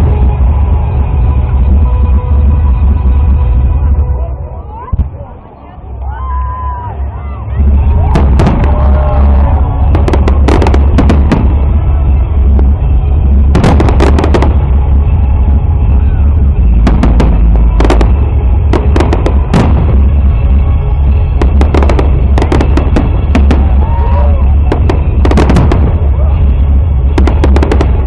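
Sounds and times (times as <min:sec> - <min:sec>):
fireworks bangs and crackles: 0:00.0 - 0:04.2, 0:07.5 - 0:28.0
heavy low rumble: 0:00.0 - 0:28.0.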